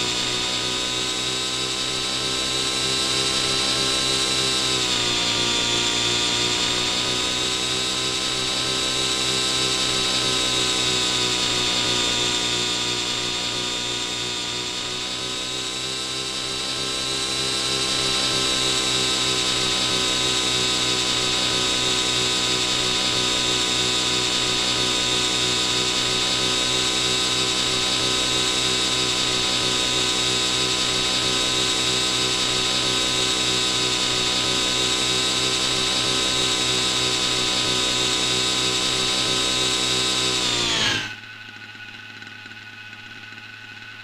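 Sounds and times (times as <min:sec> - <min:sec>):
model helicopter hovering: 0:00.0 - 0:44.0.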